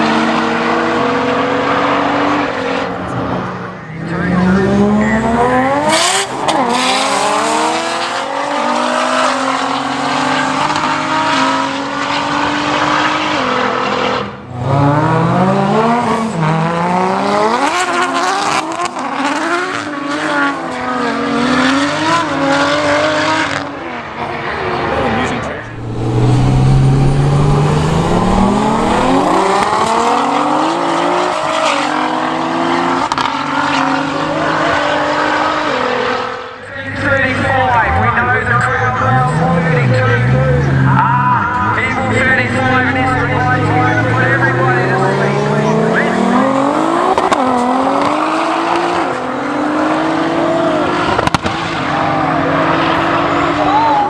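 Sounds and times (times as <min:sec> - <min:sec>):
car engines accelerating hard: 0:00.0 - 0:54.0.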